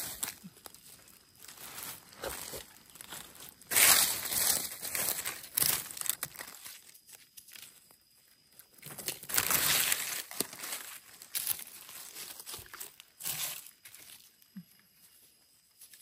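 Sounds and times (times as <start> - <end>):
dry leaves crackling and rustling: 0.0 - 7.8, 8.8 - 14.3.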